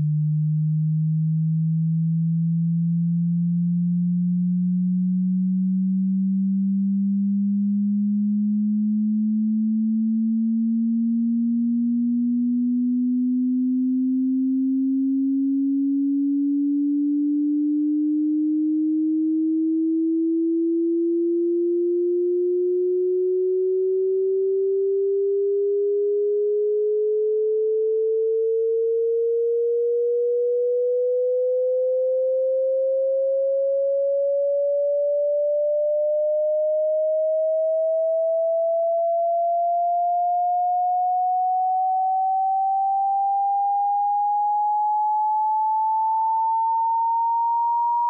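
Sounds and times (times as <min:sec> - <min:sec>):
sine tone sweeping upward: 0:00.0 - 0:48.0.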